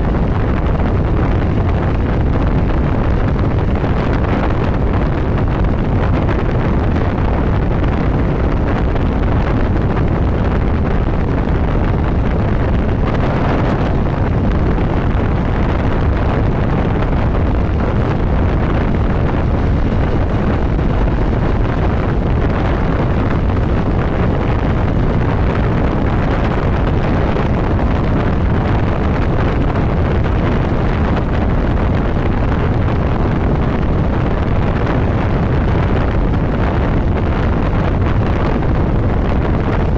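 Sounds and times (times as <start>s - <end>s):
motorcycle running noise: 0.0s - 39.9s
wind rushing over microphone: 0.0s - 39.9s.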